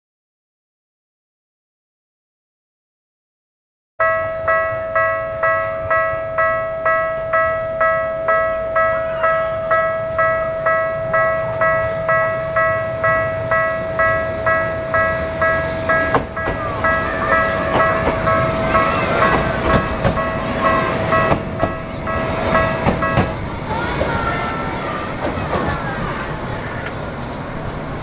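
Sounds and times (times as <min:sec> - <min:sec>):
continuous tone: 0:04.0 - 0:28.0
level-crossing warning bell: 0:04.0 - 0:28.0
train rumbling: 0:04.0 - 0:28.0.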